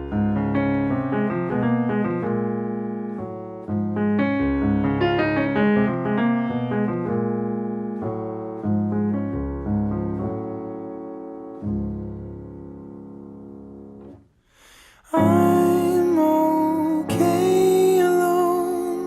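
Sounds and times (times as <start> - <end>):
piano chords and melody: 0.0 - 19.0.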